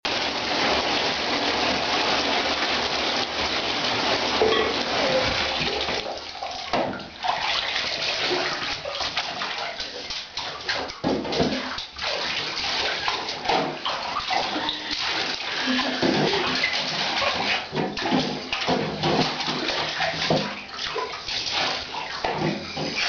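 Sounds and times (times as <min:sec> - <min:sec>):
water splashing in a bathtub: 0:00.0 - 0:23.0.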